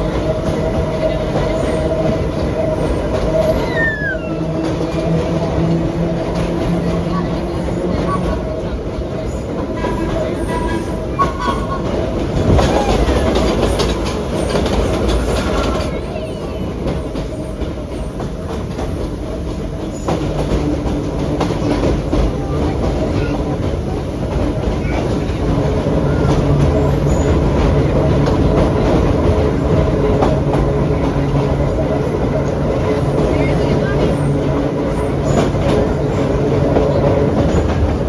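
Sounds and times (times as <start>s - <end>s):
train rumble: 0.0s - 38.0s.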